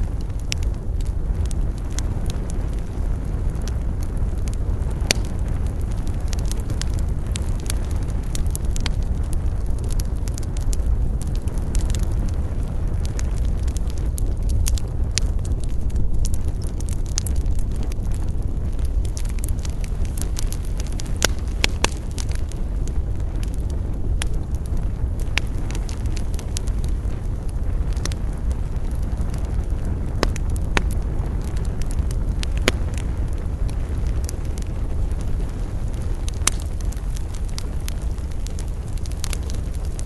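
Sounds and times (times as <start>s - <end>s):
burning wood crackling and popping: 0.0s - 40.0s
campfire low rumble: 0.0s - 40.0s.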